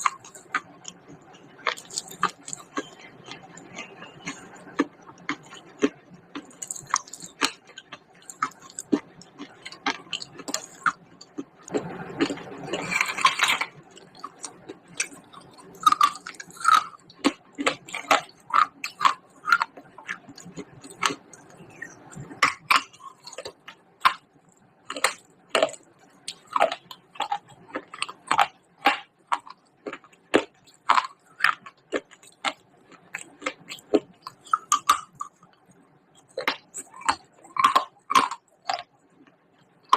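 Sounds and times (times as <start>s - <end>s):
chewing crunchy clay: 0.0s - 39.9s.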